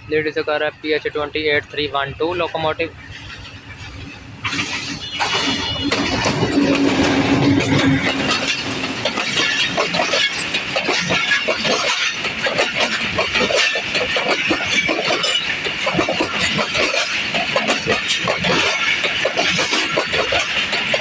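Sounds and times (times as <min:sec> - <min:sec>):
train rolling past: 0:00.0 - 0:21.0
wheels knocking on rails: 0:01.5 - 0:21.0.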